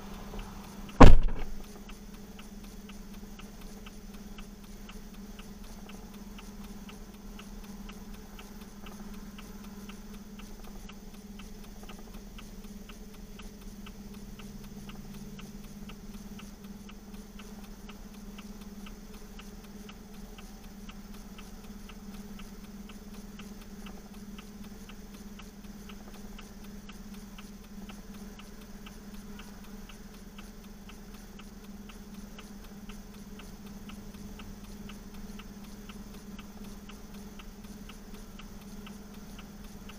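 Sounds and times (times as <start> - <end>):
continuous low hum: 0.0 - 39.9
mechanical ticking: 0.0 - 39.9.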